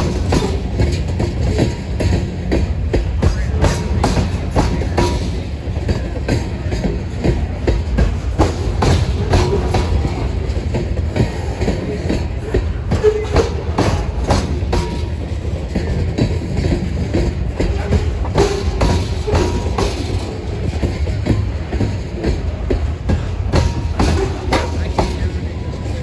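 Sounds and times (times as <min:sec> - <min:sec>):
freight train rumbling past: 0:00.0 - 0:26.0
wheels clicking over rail joints: 0:00.0 - 0:26.0
wheels squealing: 0:00.0 - 0:26.0.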